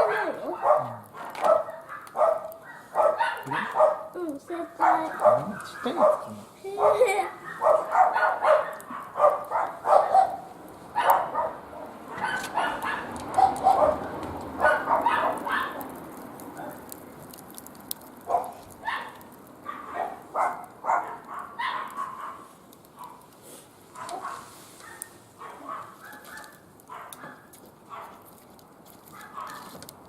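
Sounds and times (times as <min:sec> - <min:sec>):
dog barking: 0:00.0 - 0:15.8, 0:16.6 - 0:16.8, 0:18.3 - 0:23.2, 0:24.0 - 0:28.2, 0:29.2 - 0:29.8.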